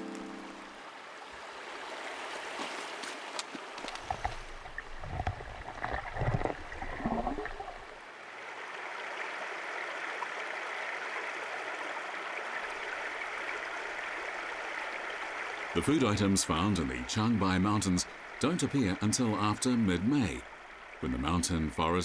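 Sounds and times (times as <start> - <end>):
steady rushing water: 0.0 - 22.0.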